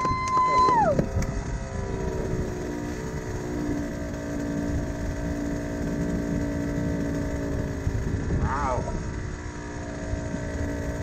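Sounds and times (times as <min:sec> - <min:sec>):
motorcycle engines droning: 0:00.0 - 0:11.0.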